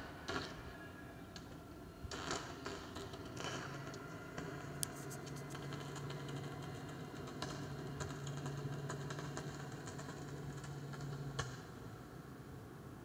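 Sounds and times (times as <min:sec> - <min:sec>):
distant tram humming: 0:00.0 - 0:13.0.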